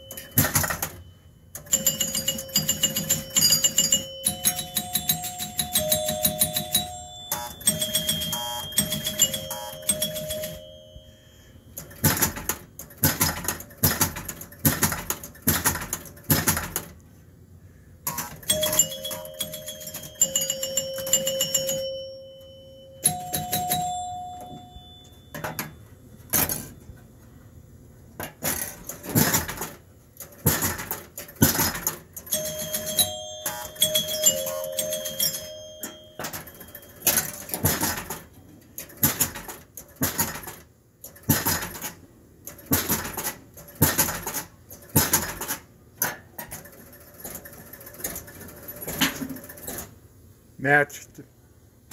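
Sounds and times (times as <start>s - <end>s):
pinball machine mechanical clacks: 0.0s - 11.1s, 11.7s - 17.0s, 18.0s - 26.9s, 28.2s - 50.0s
pinball scoring chimes: 0.0s - 16.9s, 18.1s - 27.0s, 28.2s - 49.9s.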